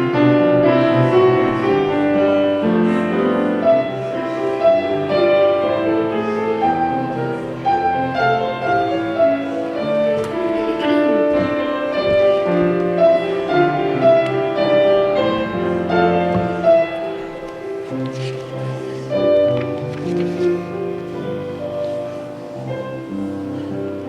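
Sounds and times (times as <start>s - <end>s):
slow church keyboard music: 0.0s - 24.0s.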